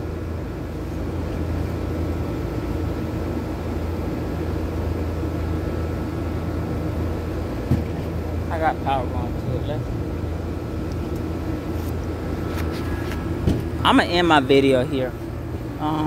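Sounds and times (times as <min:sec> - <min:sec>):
fan motor running: 0:00.0 - 0:16.0.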